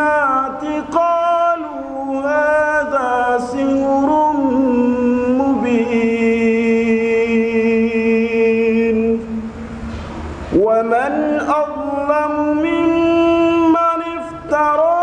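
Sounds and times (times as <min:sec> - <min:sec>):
man reciting melodically: 0:00.0 - 0:09.5, 0:10.5 - 0:15.0.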